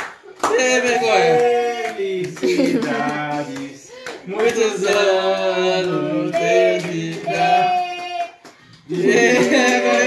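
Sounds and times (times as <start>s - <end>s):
group singing birthday song: 0.3s - 10.0s.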